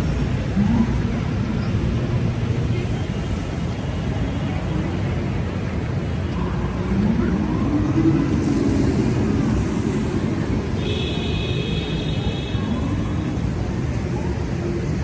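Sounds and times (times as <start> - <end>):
traffic rumble: 0.0 - 15.0
voices of passers-by: 0.0 - 15.0.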